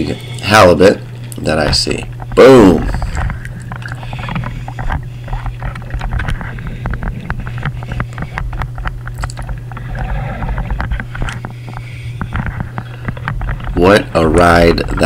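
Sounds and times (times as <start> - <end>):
steady low hum: 0.0 - 15.0
clicks and crackles: 1.0 - 15.0
muffled underwater noise: 1.6 - 15.0.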